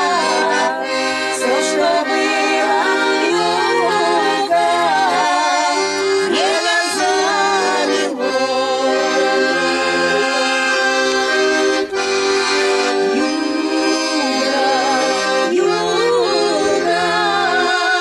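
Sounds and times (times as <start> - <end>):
woman singing with vibrato: 0.0 - 11.2, 13.1 - 18.0
piano accordion folk song: 0.0 - 18.0.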